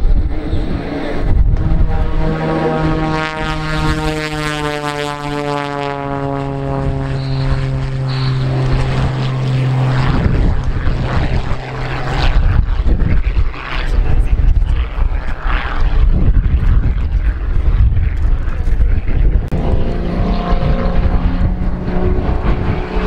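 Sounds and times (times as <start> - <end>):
propeller airplane flying by: 0.0 - 23.0.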